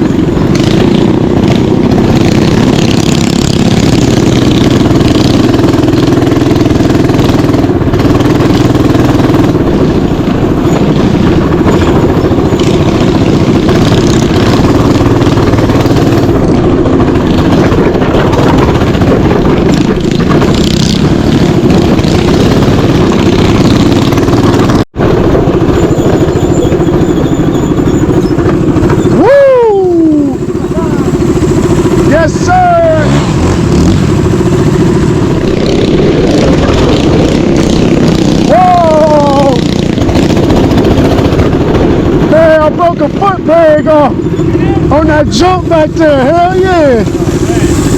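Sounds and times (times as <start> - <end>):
mini bike engine running: 0.0 - 47.9.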